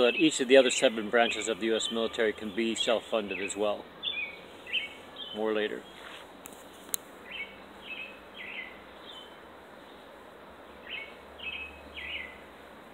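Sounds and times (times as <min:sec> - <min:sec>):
bird chirping: 0:00.0 - 0:12.5
outdoor hiss: 0:00.0 - 0:12.9.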